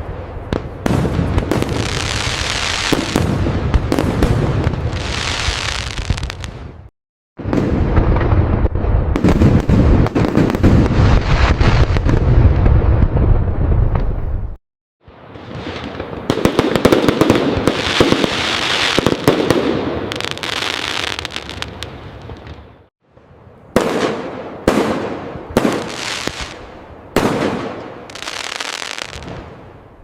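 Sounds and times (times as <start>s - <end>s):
firework bangs: 0.4s - 14.6s, 15.3s - 22.7s, 23.8s - 29.6s
loud firework bursts: 0.5s - 14.2s, 15.4s - 22.6s, 23.8s - 29.6s
firework crackling: 0.8s - 6.9s, 7.5s - 14.5s, 15.2s - 22.8s, 25.5s - 29.6s.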